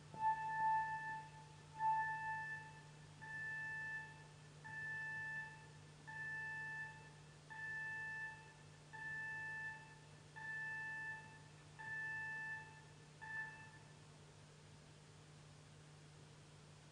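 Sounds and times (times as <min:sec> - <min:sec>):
faint steady hum: 0:00.0 - 0:16.9.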